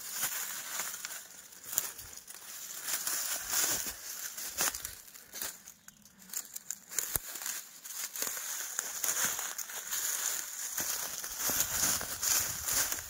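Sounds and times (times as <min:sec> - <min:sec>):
footsteps crunching on gravel: 0:00.0 - 0:05.6, 0:07.2 - 0:13.0.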